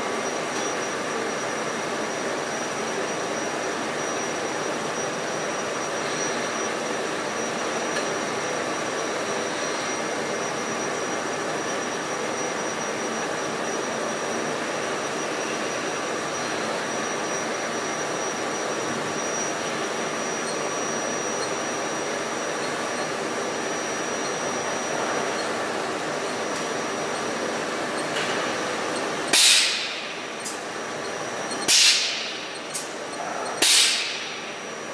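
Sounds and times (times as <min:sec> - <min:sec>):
faint high whine: 0:00.6 - 0:34.9
welding robot machine noise: 0:02.2 - 0:34.9.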